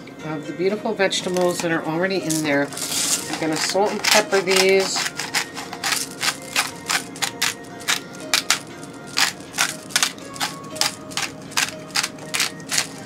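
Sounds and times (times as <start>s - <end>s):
salt and pepper shaker rattling: 1.3s - 13.0s.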